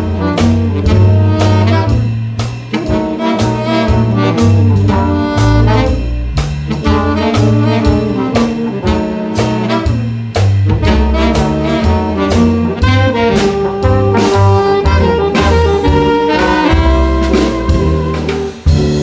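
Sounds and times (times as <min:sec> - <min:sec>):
drum kit beat: 0:00.0 - 0:19.0
saxophone: 0:00.0 - 0:19.0
trombone: 0:00.0 - 0:19.0
walking double bass: 0:00.0 - 0:19.0.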